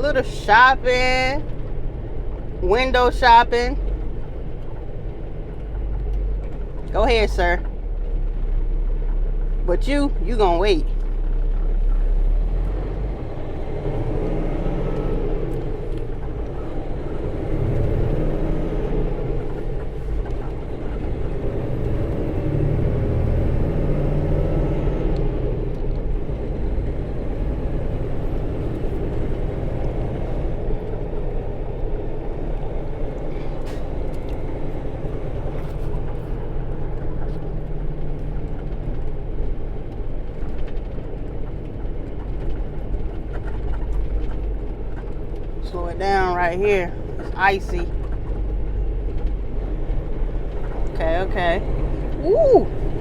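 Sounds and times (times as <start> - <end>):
road noise: 0.0 - 53.0
truck engine rumble: 0.0 - 53.0.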